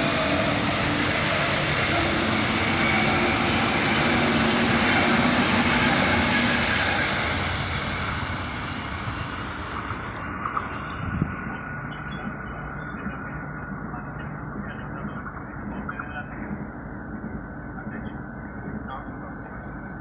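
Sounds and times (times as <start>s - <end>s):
electric train hum: 0.0s - 20.0s
train wheels rolling on rails: 0.0s - 20.0s.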